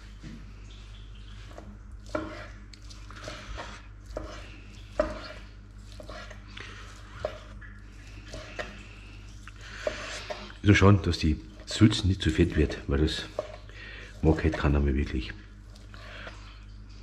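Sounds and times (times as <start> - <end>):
steady low hum: 0.0 - 17.0
meat scraping and squishing: 1.0 - 16.8.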